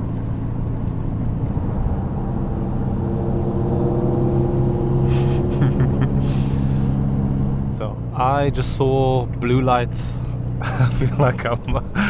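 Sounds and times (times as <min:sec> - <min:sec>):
car engine from inside cabin: 0:00.0 - 0:11.9
road noise: 0:00.0 - 0:12.0.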